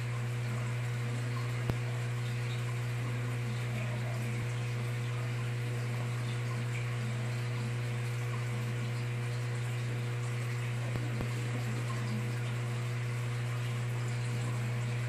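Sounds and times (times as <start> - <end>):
aquarium pump humming: 0.0 - 15.0.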